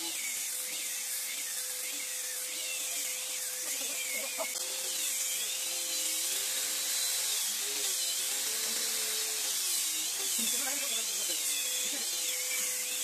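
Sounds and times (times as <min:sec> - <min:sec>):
disc sanders sanding wood: 0:00.0 - 0:13.0
sander motor whine: 0:00.0 - 0:13.0.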